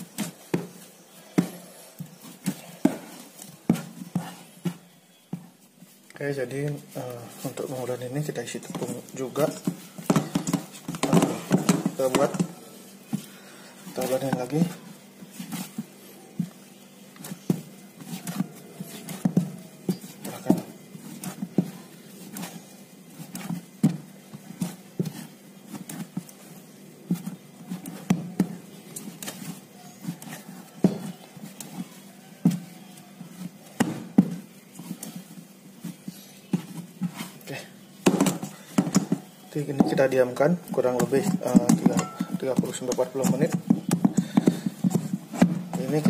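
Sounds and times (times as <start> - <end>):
dough kneaded with thuds and slaps: 0.0 - 46.0.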